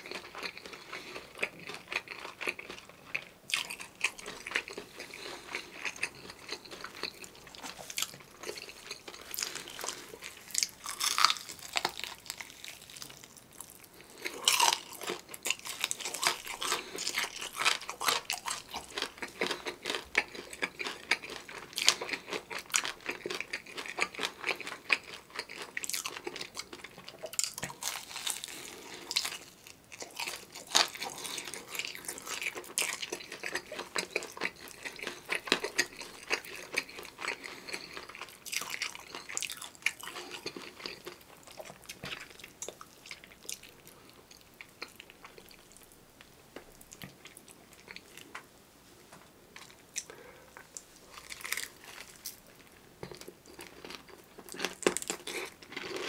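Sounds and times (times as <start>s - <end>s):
crunchy chewing of fried chicken: 0.0s - 48.4s, 49.5s - 56.0s.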